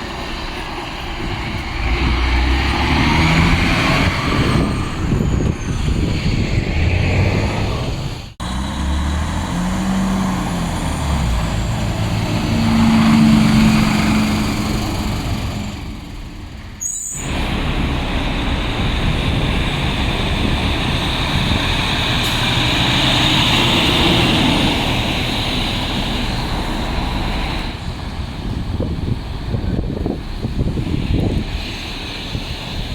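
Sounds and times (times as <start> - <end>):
diesel trucks engine rumble: 0.0 - 32.9
street traffic noise: 0.0 - 32.9.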